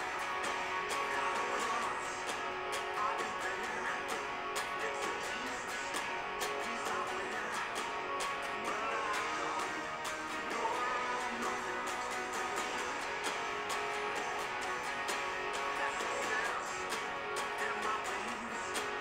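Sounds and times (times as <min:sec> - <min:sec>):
electric guitar strumming chords: 0:00.0 - 0:19.0.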